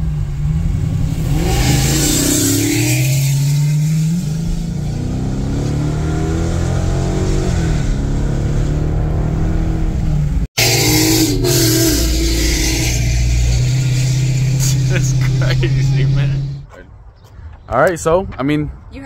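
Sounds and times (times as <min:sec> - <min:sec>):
car engine accelerating: 0:00.0 - 0:16.7.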